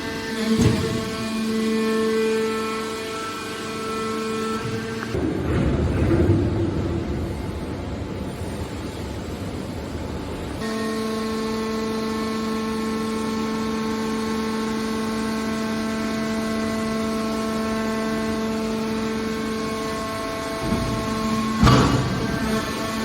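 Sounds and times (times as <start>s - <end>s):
hydraulic baler machinery: 0.0s - 23.0s.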